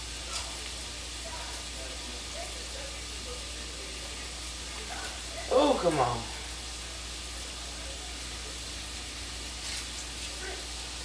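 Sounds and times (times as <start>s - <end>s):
vegetables sizzling in a pot: 0.0s - 11.0s.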